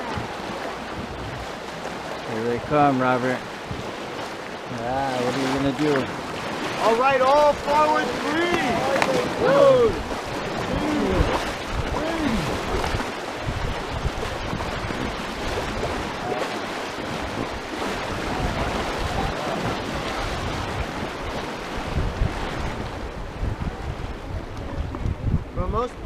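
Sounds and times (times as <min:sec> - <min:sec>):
rushing whitewater: 0:00.0 - 0:26.0.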